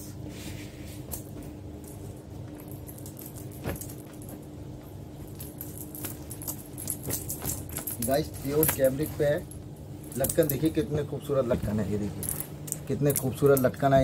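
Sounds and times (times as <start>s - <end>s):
clothes rustling: 0.2s - 13.9s.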